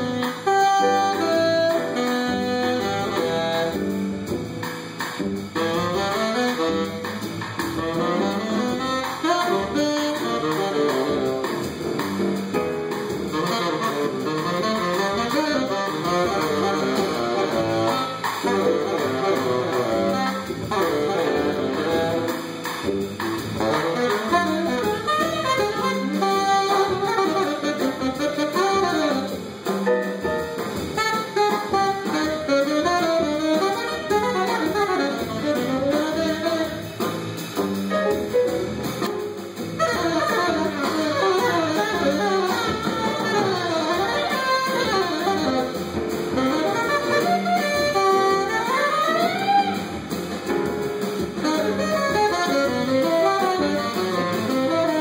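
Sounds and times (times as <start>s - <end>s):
jazz band playing: 0.0s - 55.0s
tenor saxophone solo: 0.0s - 55.0s.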